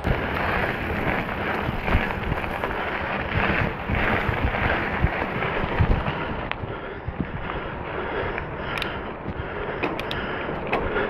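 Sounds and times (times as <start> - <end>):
bike rattling over rough trail: 0.0 - 11.0
wind noise on microphone: 0.0 - 11.0.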